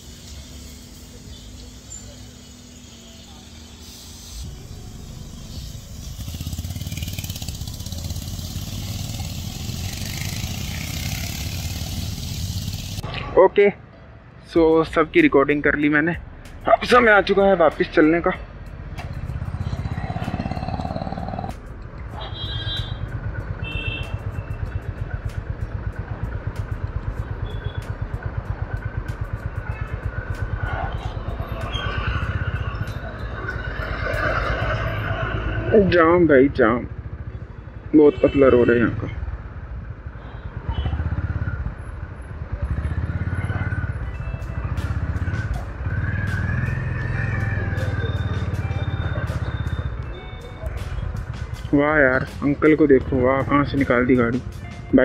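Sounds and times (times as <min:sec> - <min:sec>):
motorcycles riding past: 0:04.4 - 0:13.4, 0:18.5 - 0:54.5.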